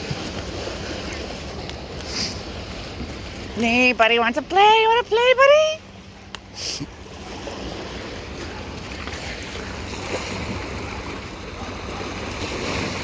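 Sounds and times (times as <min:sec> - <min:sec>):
ocean waves on beach: 0:00.0 - 0:13.0.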